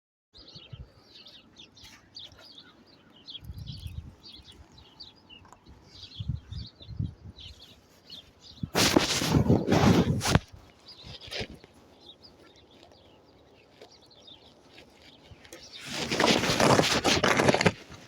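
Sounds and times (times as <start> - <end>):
small birds chirping: 0.4 - 18.0.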